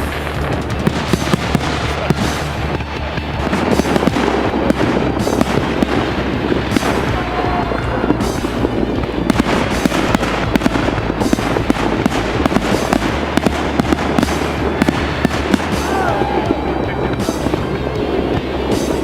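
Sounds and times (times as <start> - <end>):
firework whistle: 0.0 - 17.8
fireworks crackling and banging: 0.0 - 19.0.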